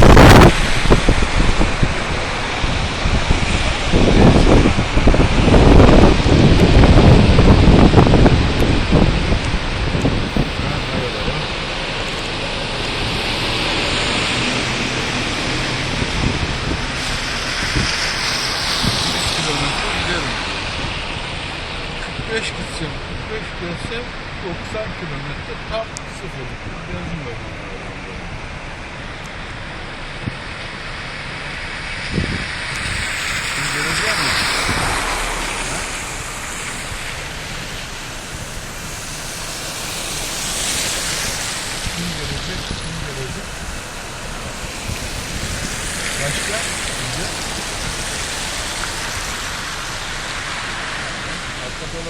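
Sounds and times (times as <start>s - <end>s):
low car rumble: 0.0s - 52.0s
rain and wet road hiss: 0.0s - 52.0s.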